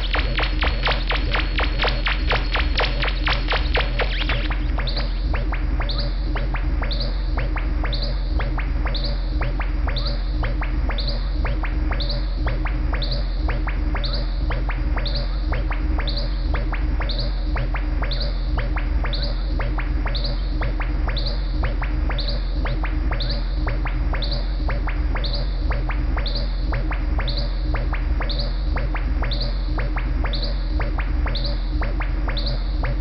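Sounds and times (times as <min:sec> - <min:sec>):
sharp clicks: 0:00.0 - 0:33.0
synthesizer low drone: 0:00.0 - 0:33.0.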